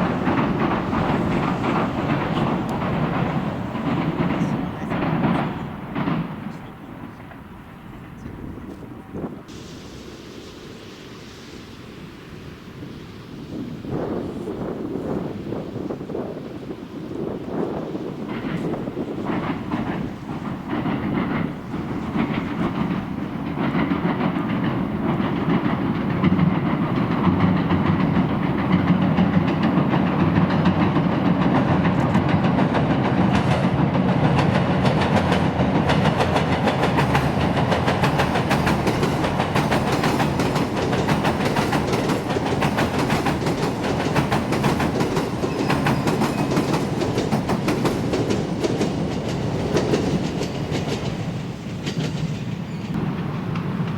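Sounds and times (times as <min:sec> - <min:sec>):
wheels clicking over rail joints: 0:00.0 - 0:08.9, 0:17.1 - 0:53.9
train wheels rumbling on rails: 0:00.0 - 0:53.9.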